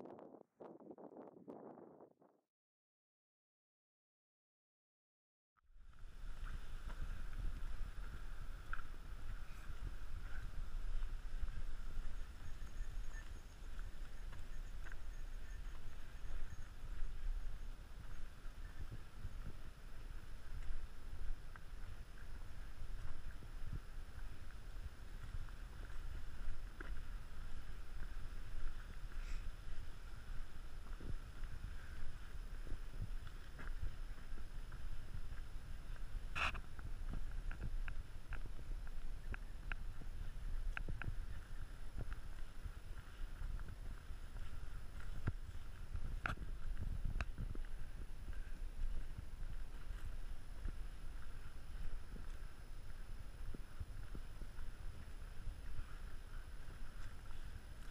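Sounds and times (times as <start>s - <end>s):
wind rumble on microphone: 0.0s - 2.4s, 5.7s - 57.9s
footsteps on dirt trail: 5.8s - 57.9s.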